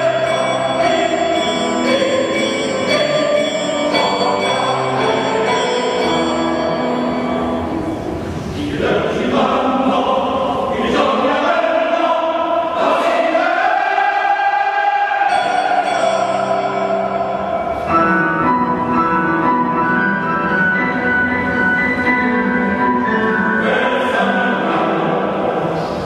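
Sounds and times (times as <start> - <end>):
choir singing sustained chords: 0.0 - 26.0.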